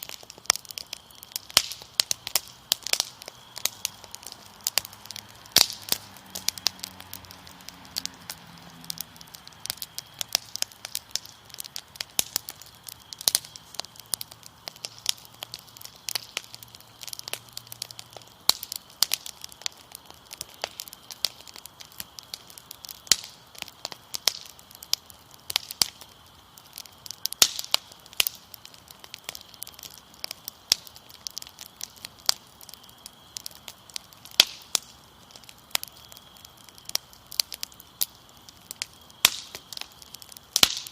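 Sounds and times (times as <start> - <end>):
crickets chirring: 0.0 - 40.9
wood fire crackling and popping: 0.0 - 40.9.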